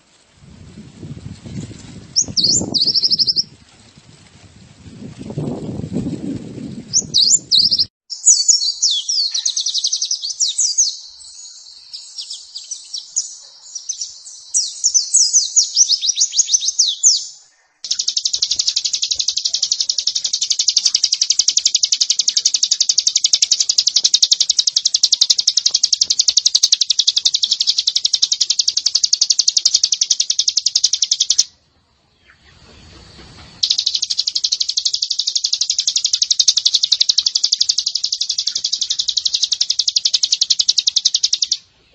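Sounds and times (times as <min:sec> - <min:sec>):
high twittering bird chirps: 0:02.1 - 0:03.5, 0:06.9 - 0:32.6, 0:33.6 - 0:41.9
fast bird trill: 0:02.1 - 0:03.6, 0:06.9 - 0:31.6, 0:33.6 - 0:41.7.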